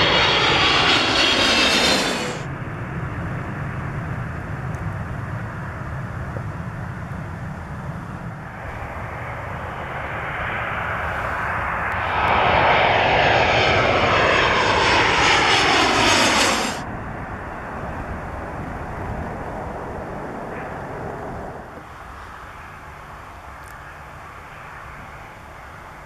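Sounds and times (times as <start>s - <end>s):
jet engine roar: 0.0s - 6.0s, 6.7s - 26.0s
steady jet rumble: 0.0s - 23.5s.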